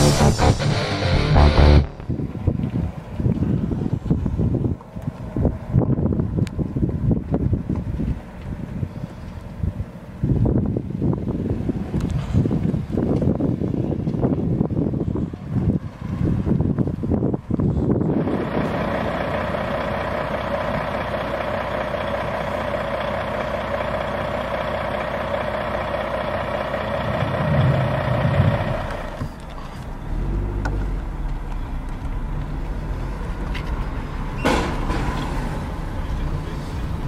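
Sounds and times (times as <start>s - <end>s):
car engines idling: 0.0s - 37.0s.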